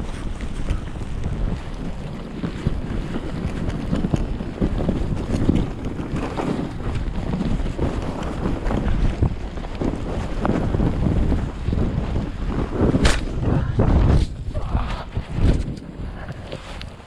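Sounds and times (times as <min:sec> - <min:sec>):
skis scraping through snow: 0:00.0 - 0:17.0
wind buffeting microphone: 0:00.0 - 0:17.0.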